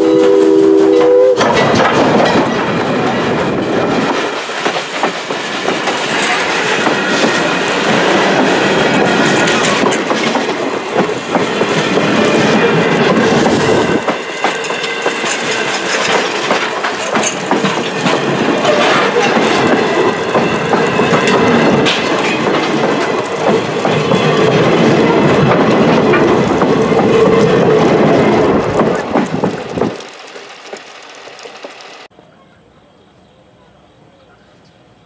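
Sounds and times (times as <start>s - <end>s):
train passing: 0.0s - 32.6s
wheels clattering over rail joints: 1.4s - 32.1s.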